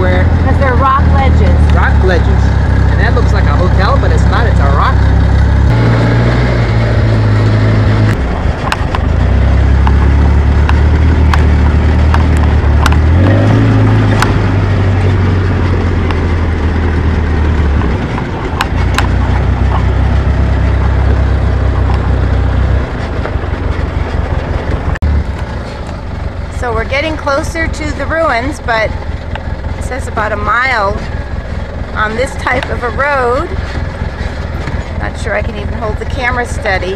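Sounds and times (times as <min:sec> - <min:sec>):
atv engine droning: 0:00.0 - 0:36.9.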